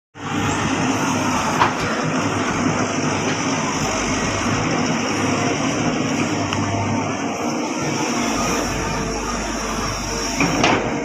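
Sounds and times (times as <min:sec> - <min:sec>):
excavator diesel engine running: 0:00.2 - 0:11.0.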